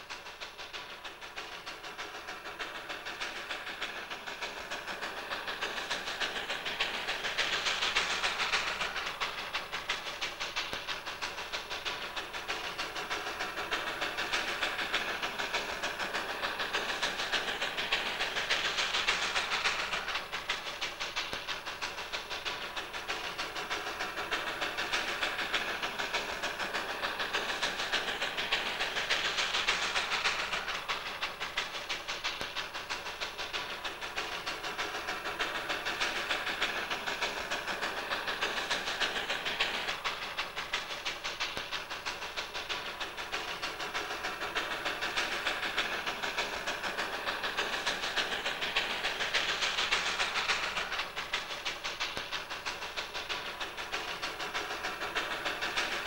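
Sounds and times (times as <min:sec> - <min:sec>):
steam hiss: 0:00.0 - 0:56.0
steam locomotive exhaust beats: 0:00.0 - 0:56.0.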